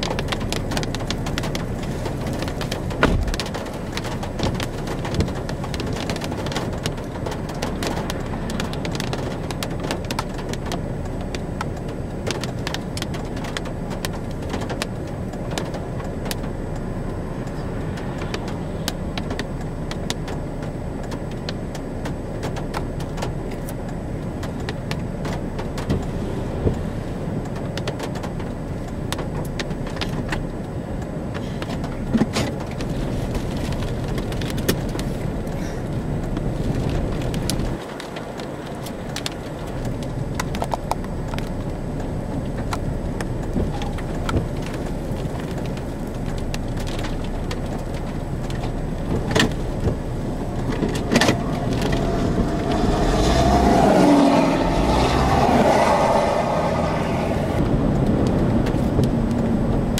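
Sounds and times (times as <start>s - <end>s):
raindrops ticking on car: 0.0s - 59.9s
wind rumble: 0.0s - 59.9s.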